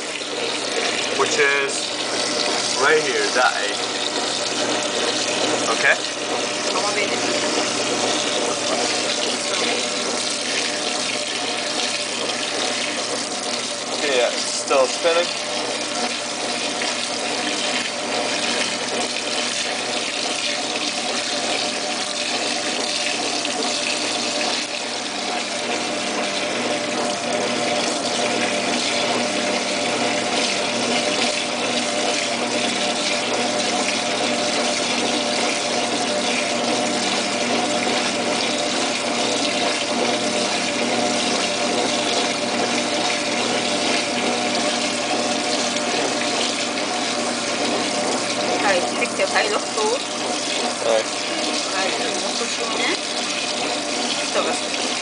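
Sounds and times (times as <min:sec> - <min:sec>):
washing machine motor hum: 0:00.0 - 0:55.0
water rushing in washing machine: 0:00.0 - 0:55.0.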